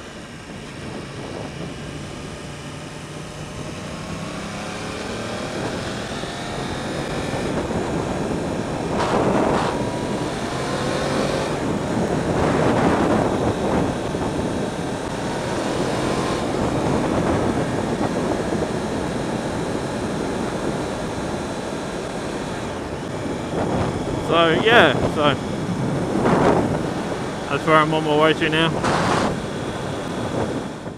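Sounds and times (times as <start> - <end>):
motorcycle engine accelerating: 0.0 - 30.9
wind rush on microphone: 0.0 - 30.9.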